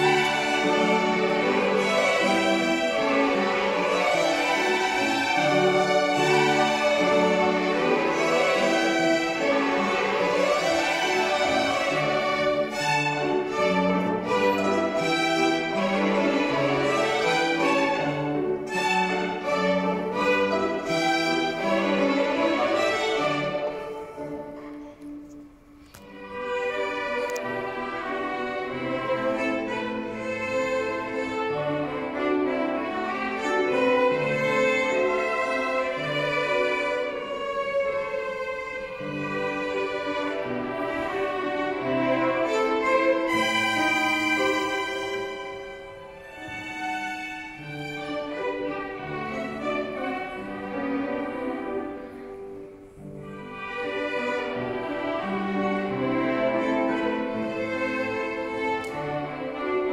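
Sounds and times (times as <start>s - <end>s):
violin ensemble playing: 0.0s - 59.9s.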